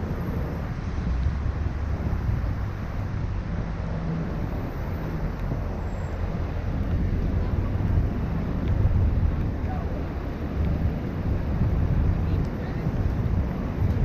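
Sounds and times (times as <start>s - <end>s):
city street traffic rumble: 0.0s - 14.0s.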